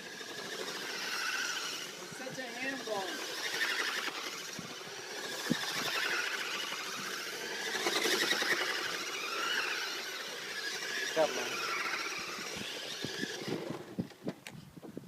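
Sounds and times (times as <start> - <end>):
toy motor and gears whirring: 0.0 - 14.3.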